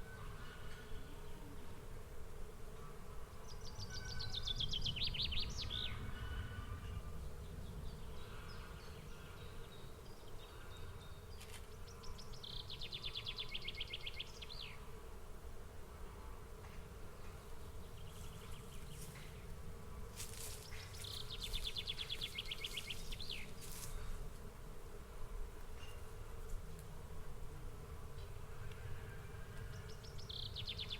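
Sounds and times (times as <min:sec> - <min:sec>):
bees buzzing: 0:00.0 - 0:30.9.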